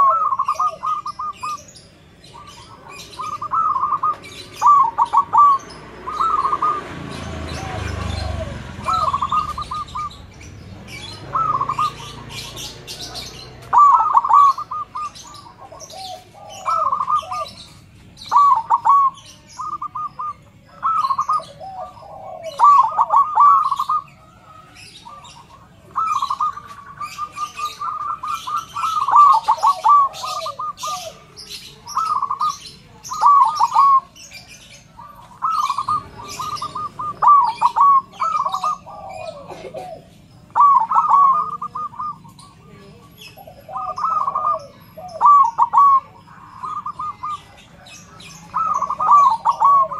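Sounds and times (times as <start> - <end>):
dove cooing with trilled notes: 0.0 - 49.9
small birds chirping faintly: 0.0 - 49.9.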